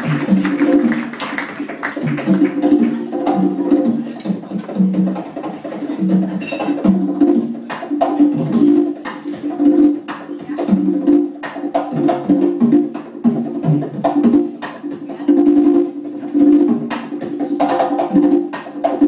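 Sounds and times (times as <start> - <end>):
hand percussion band music: 0.0 - 19.0
wood-block-like strikes: 0.0 - 19.0.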